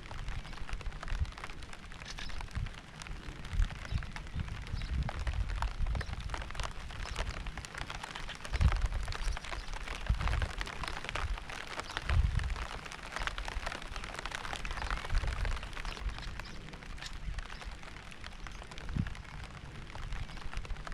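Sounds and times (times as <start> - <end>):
rain falling: 0.0 - 20.9.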